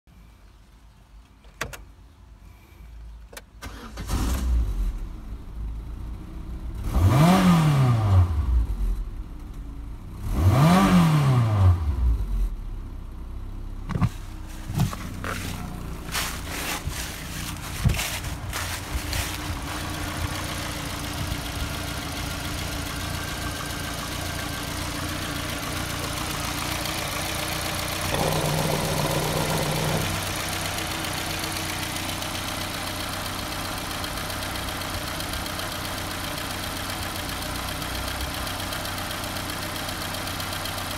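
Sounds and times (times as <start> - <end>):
car engine starting and revving: 3.6 - 40.7.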